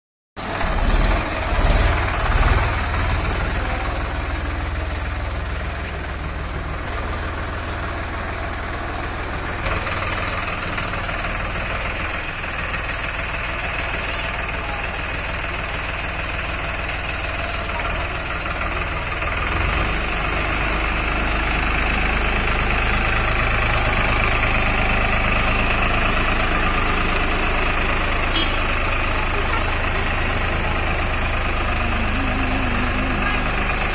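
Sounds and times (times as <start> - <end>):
tractor diesel engine running: 0.4 - 33.9.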